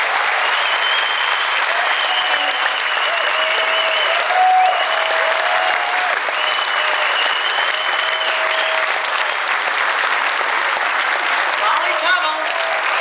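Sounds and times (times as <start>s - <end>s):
long held cheers: 0.0s - 9.7s, 10.7s - 13.0s
audience applauding: 0.0s - 13.0s.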